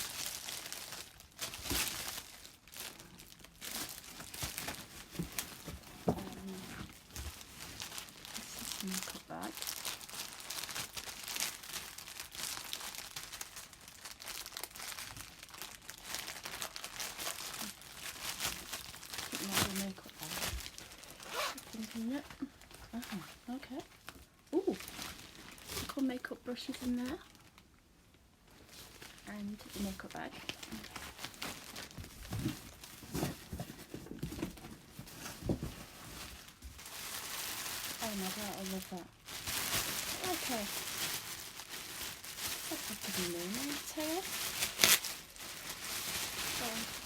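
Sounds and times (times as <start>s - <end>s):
packaging crinkling: 0.0s - 27.8s, 28.6s - 47.0s.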